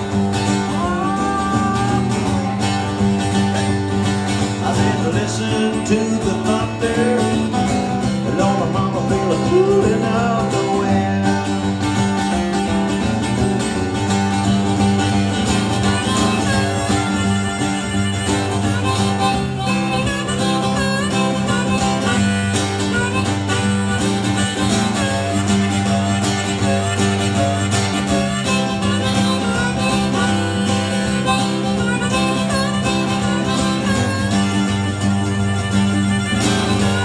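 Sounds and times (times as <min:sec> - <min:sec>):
country band playing instrumental: 0:00.0 - 0:37.0.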